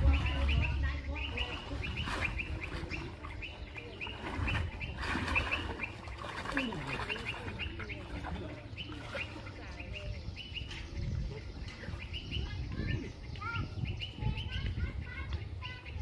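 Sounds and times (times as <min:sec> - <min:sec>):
small birds chirping: 0:00.0 - 0:16.0
water splashing and sloshing: 0:00.0 - 0:16.0.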